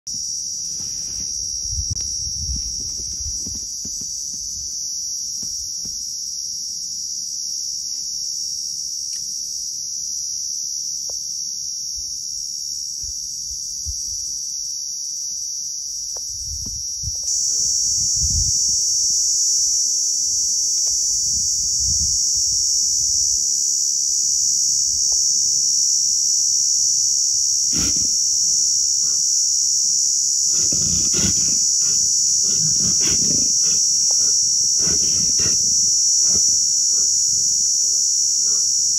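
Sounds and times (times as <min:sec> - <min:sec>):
insect chorus drone: 0:00.1 - 0:38.9.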